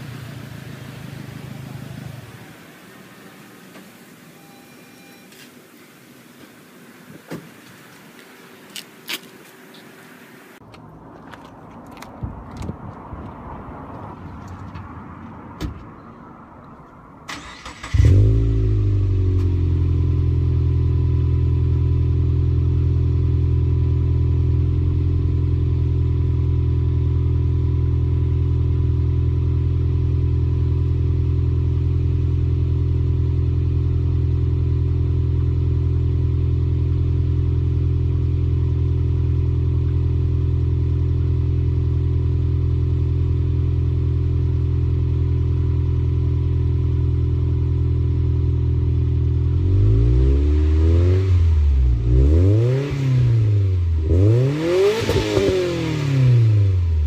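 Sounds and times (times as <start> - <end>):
car engine revving and idling: 0.0 - 4.5, 13.2 - 57.0.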